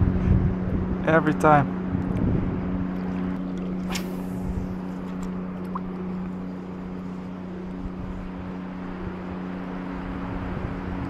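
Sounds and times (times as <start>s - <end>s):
steady motor drone: 0.0s - 11.0s.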